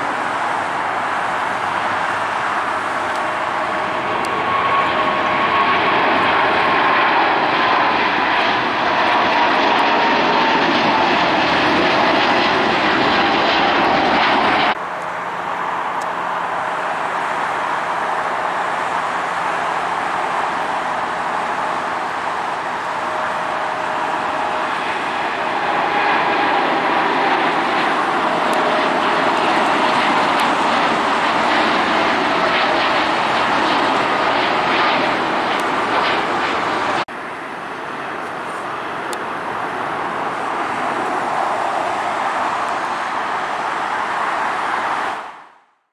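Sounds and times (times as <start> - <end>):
falling turbine whine: 0.0 - 45.6
jet airliner taking off: 0.0 - 45.6.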